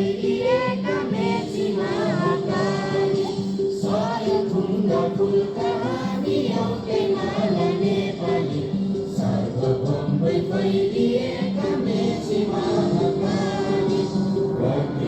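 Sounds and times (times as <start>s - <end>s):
children singing in chorus: 0.0s - 15.0s
music: 0.0s - 15.0s.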